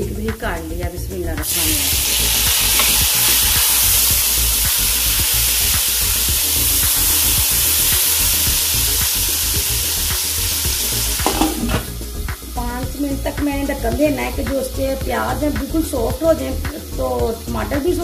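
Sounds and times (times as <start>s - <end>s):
food sizzling in hot oil: 1.2s - 18.0s.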